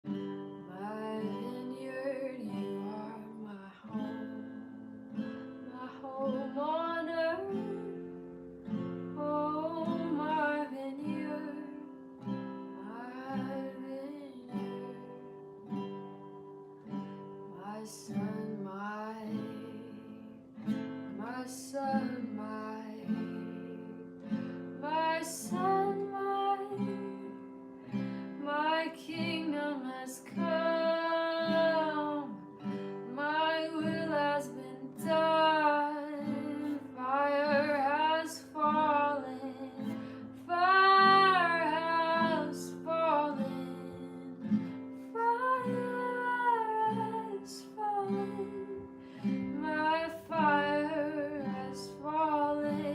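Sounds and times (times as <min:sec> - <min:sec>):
strummed acoustic guitar: 0:00.0 - 0:52.9
woman singing: 0:00.5 - 0:15.7, 0:17.5 - 0:52.9.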